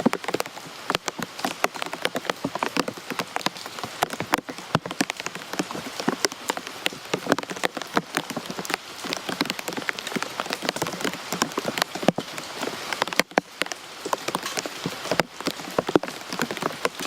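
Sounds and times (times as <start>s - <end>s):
rain drops splashing on hard surface: 0.0s - 17.0s.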